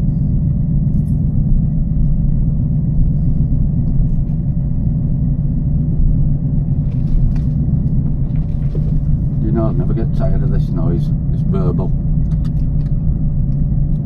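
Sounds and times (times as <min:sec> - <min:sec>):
car engine burbling: 0:00.0 - 0:14.0.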